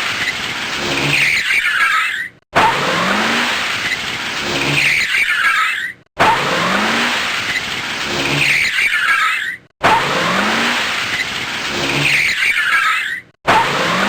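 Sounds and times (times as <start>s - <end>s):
car tyres screeching: 0.0s - 14.0s.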